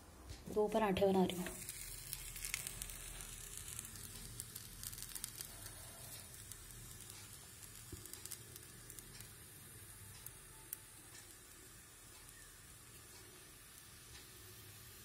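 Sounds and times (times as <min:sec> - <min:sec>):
flatbread sizzling on a griddle: 0:01.3 - 0:15.0.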